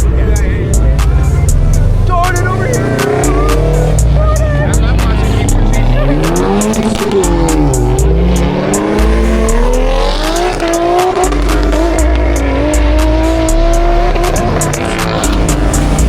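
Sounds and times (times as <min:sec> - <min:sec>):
car engine revving: 0:00.0 - 0:16.0
music with deep bass and hi-hat: 0:00.0 - 0:16.0.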